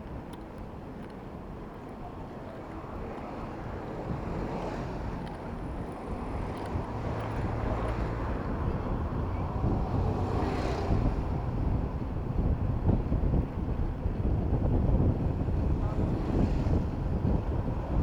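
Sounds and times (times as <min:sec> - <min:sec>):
wind rumbling on microphone: 0:00.0 - 0:18.0
motor vehicles running: 0:02.6 - 0:18.0.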